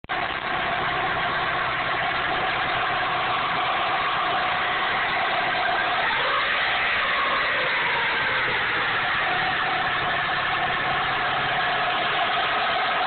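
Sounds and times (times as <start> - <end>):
car engine running: 0.0 - 13.0
steady high whine: 0.1 - 13.0.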